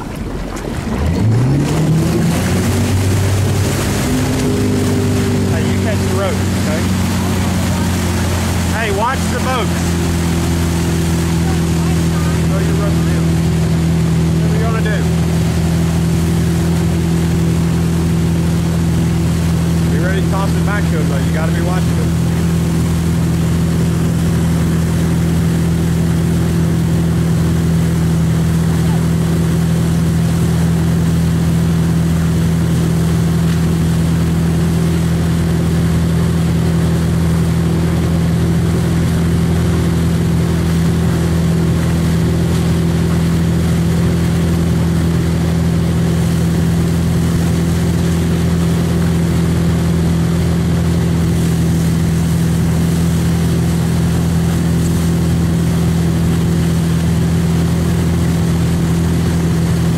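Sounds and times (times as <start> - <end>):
motorboat engine drone: 0.0 - 59.9
rush of churning wake: 0.0 - 59.9.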